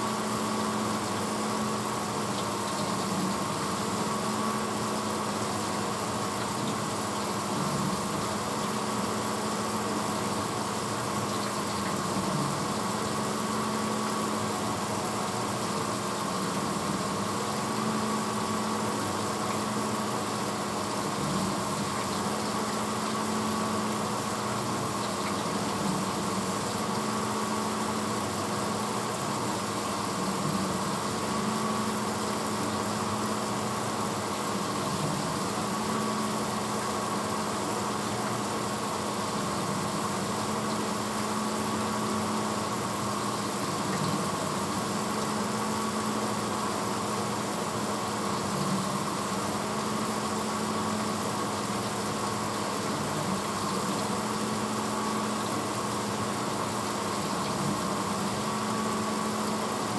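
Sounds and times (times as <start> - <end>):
dishwasher running: 0.0 - 59.9.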